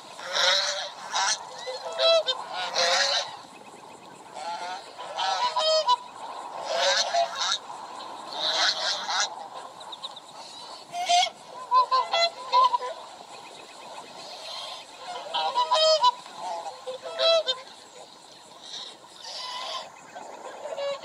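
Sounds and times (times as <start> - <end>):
waterfowl honking: 0.0 - 3.5, 4.3 - 7.6, 8.3 - 13.3, 13.9 - 21.0.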